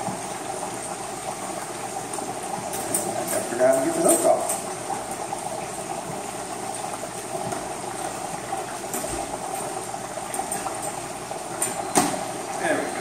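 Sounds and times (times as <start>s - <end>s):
hot oil bubbling and sizzling: 0.0s - 13.0s.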